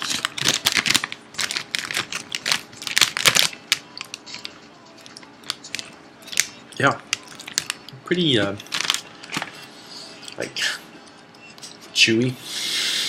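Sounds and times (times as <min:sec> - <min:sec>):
food packaging crinkling: 0:00.0 - 0:10.5.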